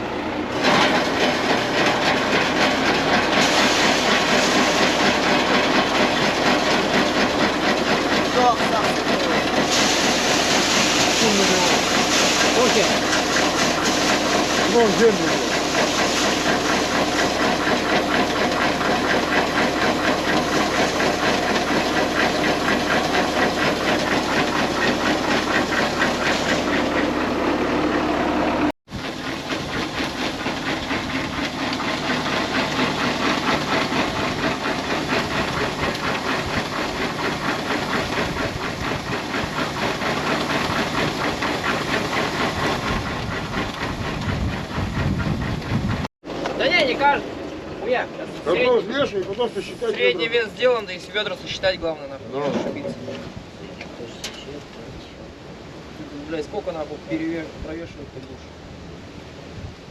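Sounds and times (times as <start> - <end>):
tractor diesel engine running: 0.0 - 57.7.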